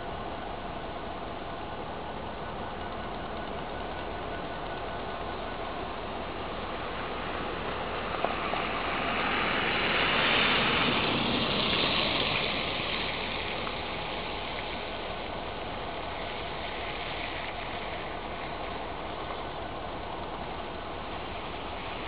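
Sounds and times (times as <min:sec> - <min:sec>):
steady low hum: 0:00.0 - 0:22.0
tyre hiss on wet road: 0:04.1 - 0:22.0.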